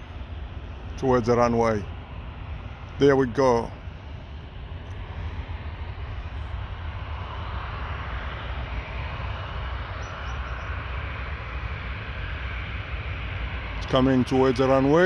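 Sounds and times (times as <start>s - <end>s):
jet engines taxiing: 0.0s - 15.0s.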